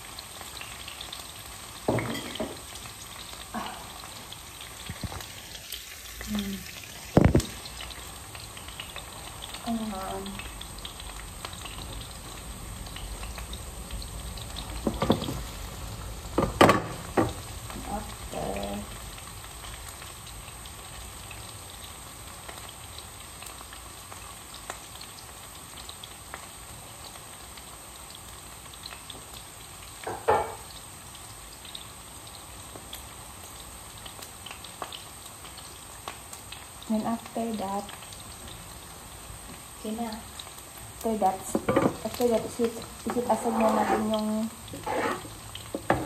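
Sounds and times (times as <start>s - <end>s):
onion sizzling in oil: 0.0s - 46.0s.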